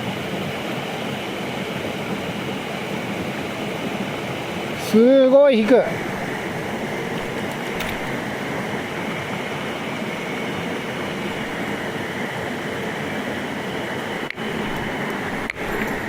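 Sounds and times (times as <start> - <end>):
rushing stream: 0.0 - 16.0.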